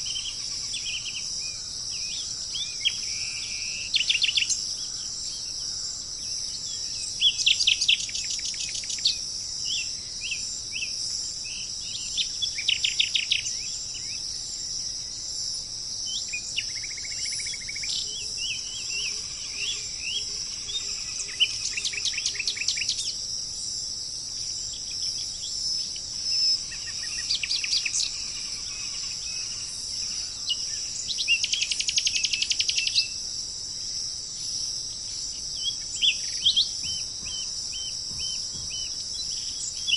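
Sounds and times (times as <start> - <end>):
insect drone: 0.0 - 39.9
songbirds singing: 0.0 - 39.9.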